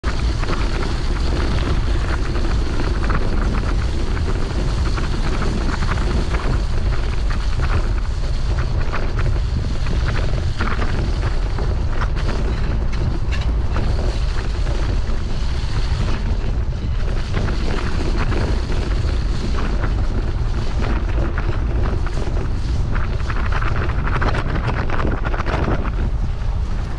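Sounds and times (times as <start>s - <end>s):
steady low rumble: 0.0s - 26.9s
wind buffeting microphone: 0.0s - 26.9s.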